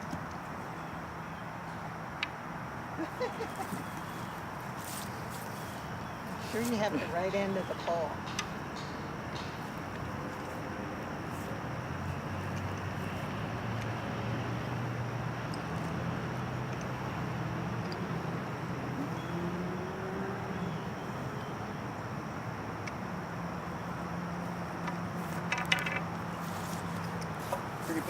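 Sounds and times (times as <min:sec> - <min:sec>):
low engine hum: 0:00.0 - 0:28.0
outdoor background noise: 0:00.0 - 0:28.0.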